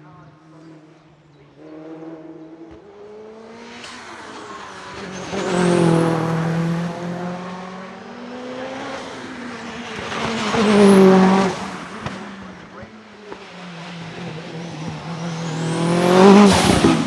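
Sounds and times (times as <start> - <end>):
racing car engine at full throttle: 0.0 - 17.0.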